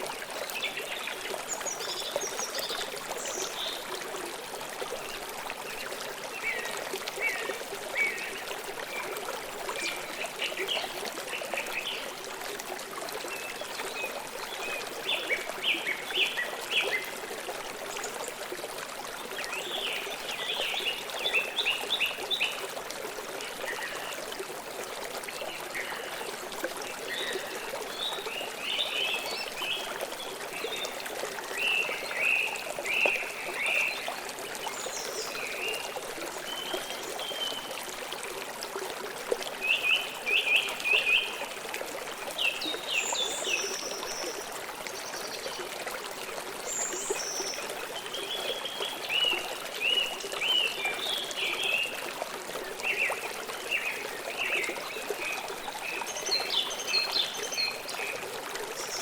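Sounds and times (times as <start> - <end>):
river water flowing and trickling: 0.0 - 59.0.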